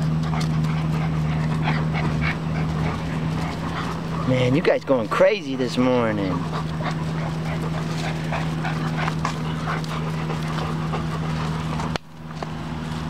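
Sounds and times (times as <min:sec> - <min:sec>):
puppies scuffling on dirt: 0:00.0 - 0:13.0
steady low hum: 0:00.0 - 0:13.0.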